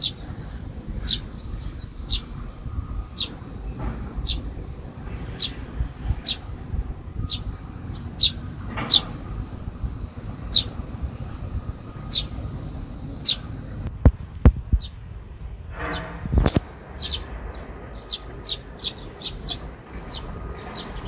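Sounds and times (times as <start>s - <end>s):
low background rumble: 0.0s - 21.0s
sparrows chirping: 0.0s - 21.0s.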